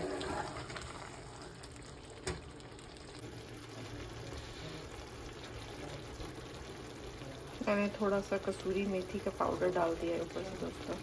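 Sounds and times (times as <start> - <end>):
gravy simmering in pan: 0.0 - 11.0.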